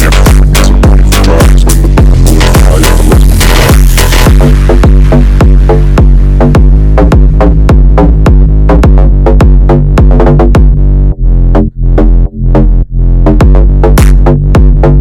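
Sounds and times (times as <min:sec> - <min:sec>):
electronic hip-hop music: 0:00.0 - 0:15.0.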